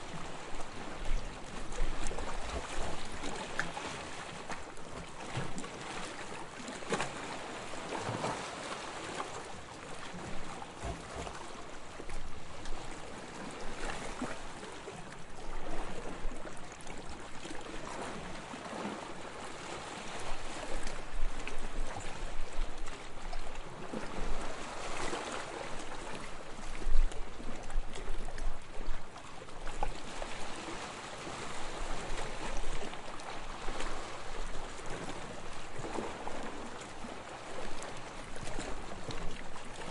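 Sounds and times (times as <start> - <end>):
small waves lapping on sand: 0.0 - 39.9.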